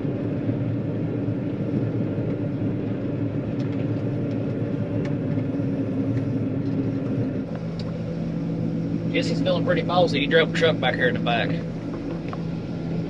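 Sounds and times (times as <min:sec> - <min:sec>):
combine harvester hum in cab: 0:00.0 - 0:13.0.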